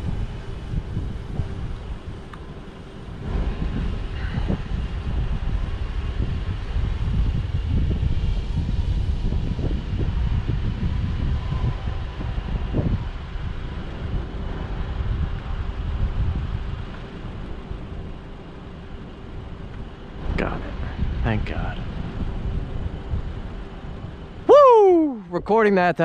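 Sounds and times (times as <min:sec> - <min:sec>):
faint steady hum: 0:00.0 - 0:26.0
wind buffeting microphone: 0:00.0 - 0:26.0.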